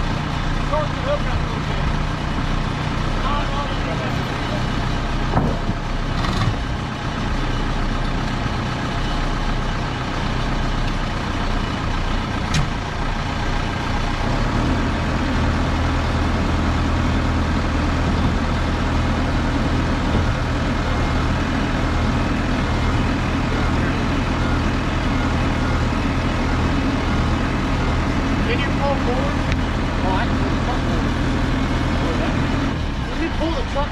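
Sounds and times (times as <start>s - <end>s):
heavy equipment engine running: 0.0s - 33.9s.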